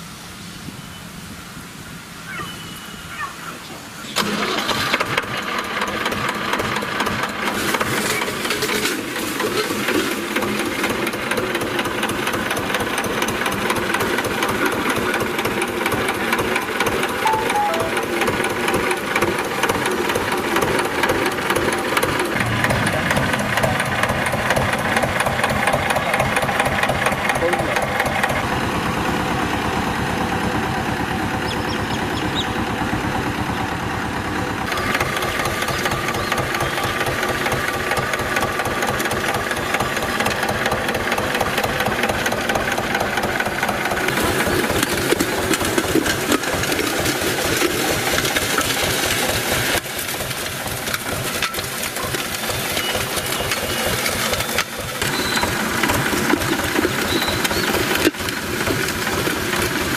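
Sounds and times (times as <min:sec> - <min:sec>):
tractor engine chugging: 0:04.1 - 0:59.9.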